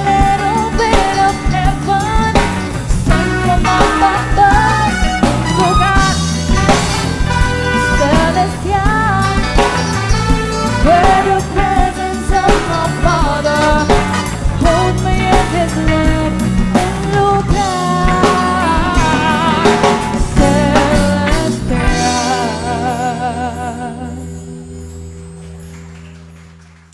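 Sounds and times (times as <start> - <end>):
lead vocal singing: 0.0 - 24.6
bass guitar: 0.0 - 26.9
drum kit: 0.0 - 26.9.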